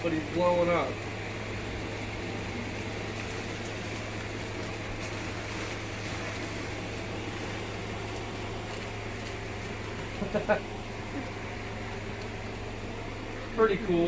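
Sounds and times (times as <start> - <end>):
blower fan humming: 0.0 - 14.0.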